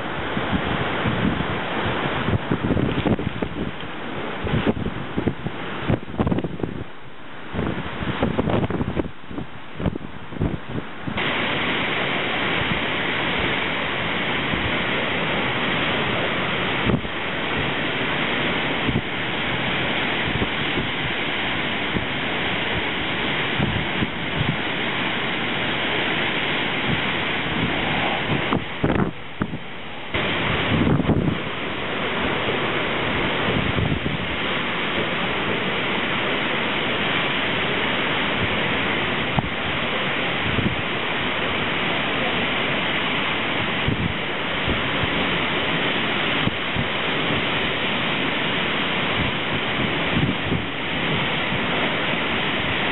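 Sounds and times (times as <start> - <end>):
rain: 0.0 - 52.9
storm wind gusting through trees: 0.0 - 52.9
wind buffeting microphone: 0.0 - 52.9.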